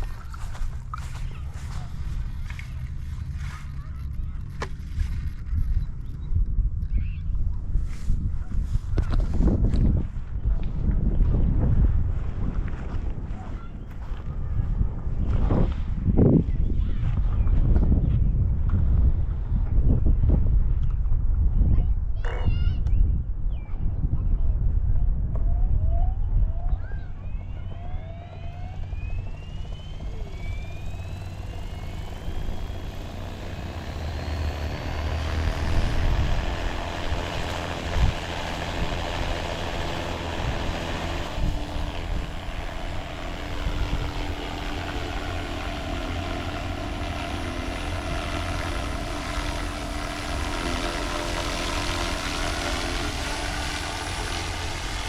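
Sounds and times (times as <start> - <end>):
helicopter rotor and engine drone: 0.0 - 22.8, 25.4 - 55.0.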